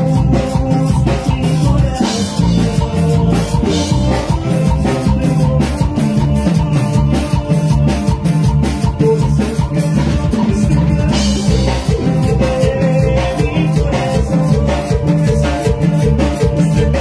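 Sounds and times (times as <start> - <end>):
band music: 0.0 - 17.0
drum kit beat: 0.0 - 17.0.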